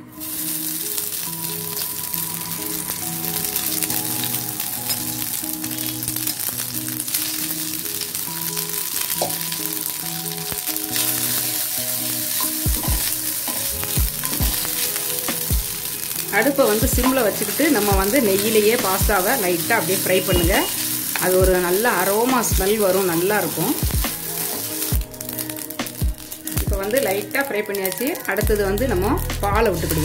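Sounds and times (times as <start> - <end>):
pasta sizzling in a pan: 0.0 - 30.0
soft background music: 0.0 - 30.0.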